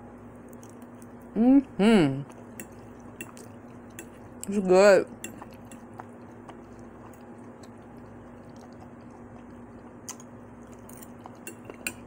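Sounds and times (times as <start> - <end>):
steady low hum: 0.0 - 12.0
faint chewing: 0.4 - 12.0.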